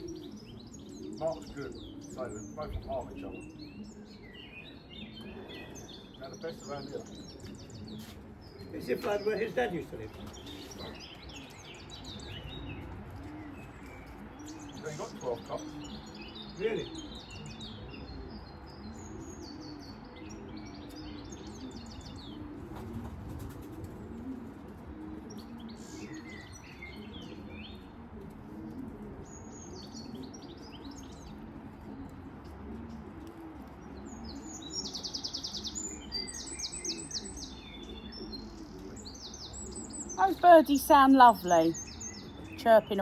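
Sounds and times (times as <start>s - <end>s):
pigeons cooing: 0.0s - 43.0s
songbirds chirping and twittering: 0.0s - 43.0s.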